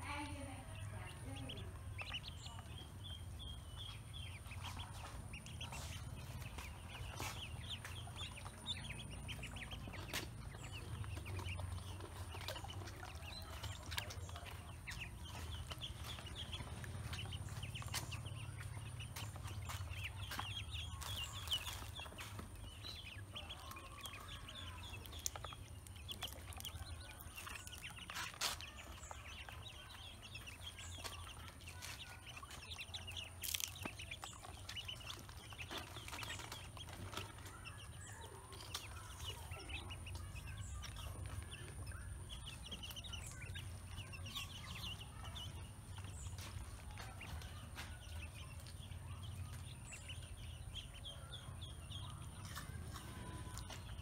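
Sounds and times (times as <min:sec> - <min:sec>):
ducklings and chicks peeping: 0:00.0 - 0:54.0.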